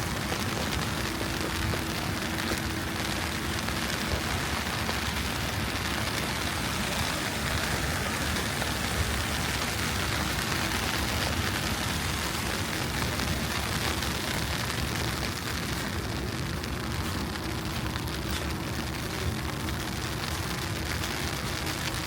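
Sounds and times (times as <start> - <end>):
city street hiss: 0.0 - 22.0.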